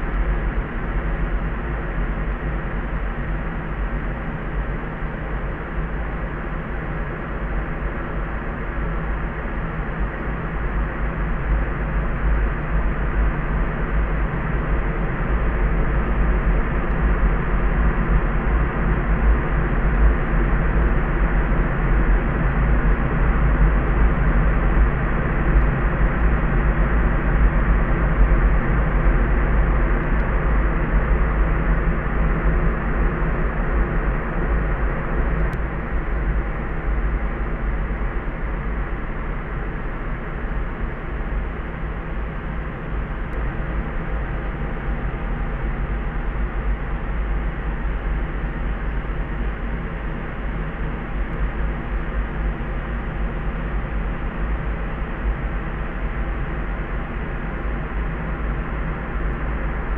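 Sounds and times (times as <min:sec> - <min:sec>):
heavy deep rumble: 0:00.0 - 0:59.9.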